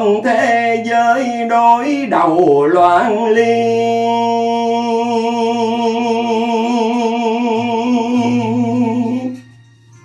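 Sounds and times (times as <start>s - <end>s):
man singing long vibrato note: 0.0s - 9.6s.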